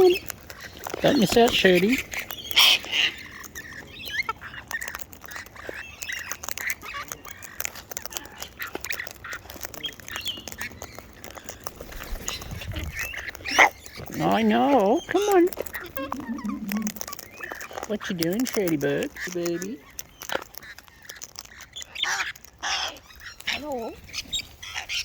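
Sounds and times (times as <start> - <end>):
beaks clicking and tapping: 0.0 - 25.0
birds chirping and squawking: 0.0 - 25.0.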